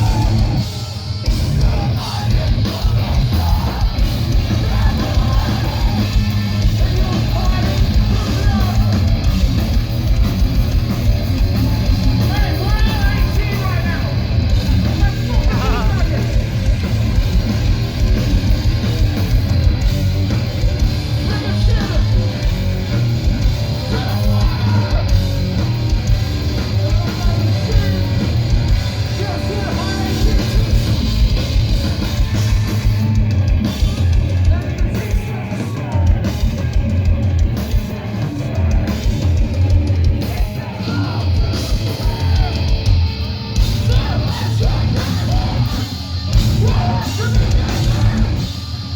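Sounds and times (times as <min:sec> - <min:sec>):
band vocals: 0:00.0 - 0:48.9
heavy distorted guitars: 0:00.0 - 0:48.9
pounding drum kit: 0:00.0 - 0:48.9.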